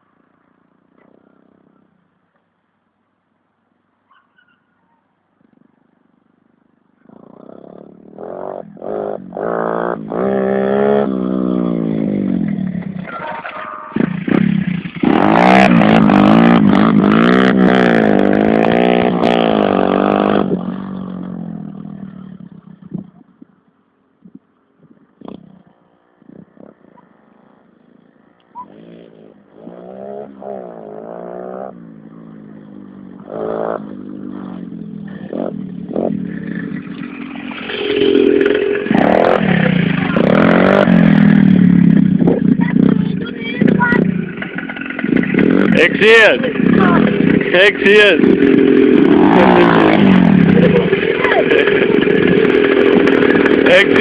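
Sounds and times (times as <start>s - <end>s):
dirt bike engines revving: 7.0s - 23.4s, 25.0s - 54.0s.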